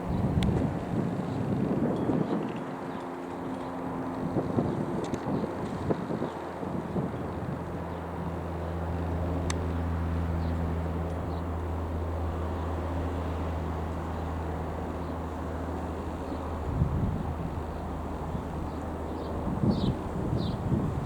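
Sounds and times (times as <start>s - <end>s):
turboprop propeller drone: 0.0s - 21.0s.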